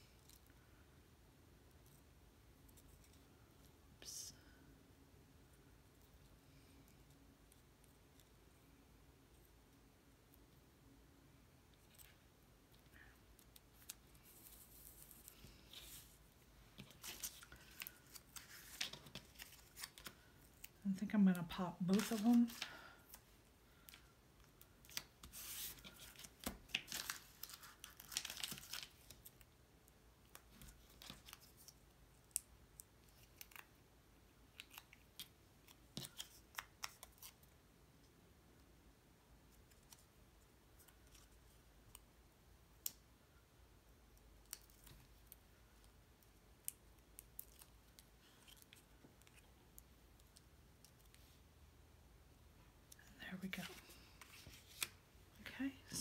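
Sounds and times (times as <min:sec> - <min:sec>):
soft clicks and paper rustles: 0:00.0 - 0:00.8, 0:01.6 - 0:04.7, 0:05.6 - 0:09.6, 0:11.6 - 0:33.8, 0:34.4 - 0:38.2, 0:39.4 - 0:42.1, 0:44.1 - 0:51.6, 0:52.6 - 0:56.0.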